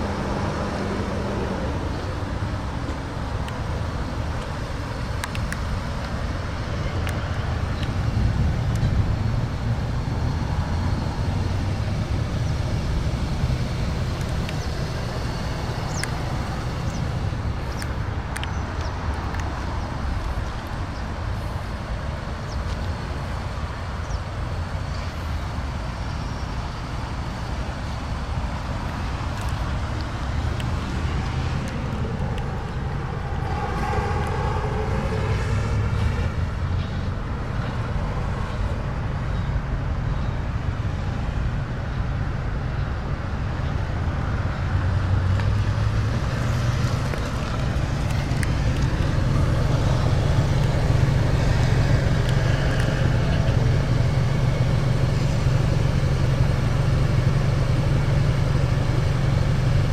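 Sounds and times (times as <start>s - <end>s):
vehicle passing by: 0.0s - 38.7s, 44.2s - 59.9s
low vehicle rumble: 0.0s - 59.9s.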